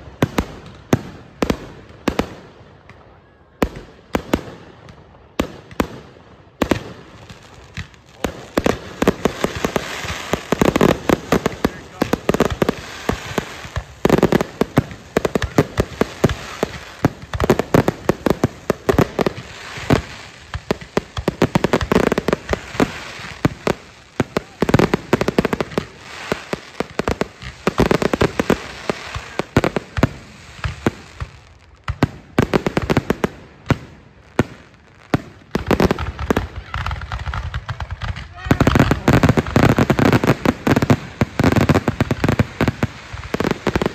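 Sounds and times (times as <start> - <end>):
fireworks exploding: 0.0 - 43.9.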